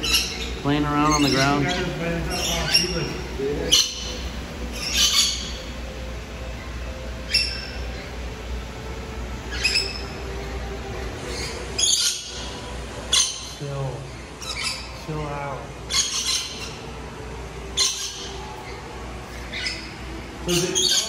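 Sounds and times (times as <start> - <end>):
low steady hum: 0.0 - 21.0
parrots giving high-pitched calls: 0.0 - 21.0.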